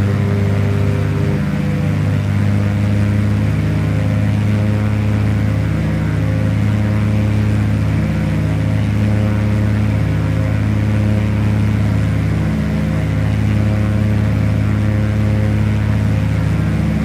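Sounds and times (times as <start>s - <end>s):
twin propeller engines droning: 0.0s - 17.0s.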